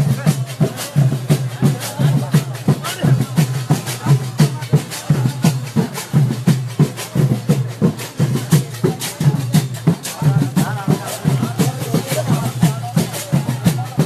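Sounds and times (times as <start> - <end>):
drums beating fast rhythm: 0.0 - 14.0.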